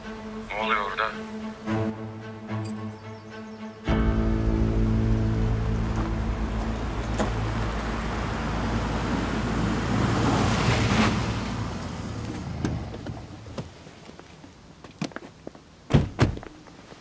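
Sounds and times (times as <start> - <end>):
car engine and tyres on tarmac: 2.5 - 17.0.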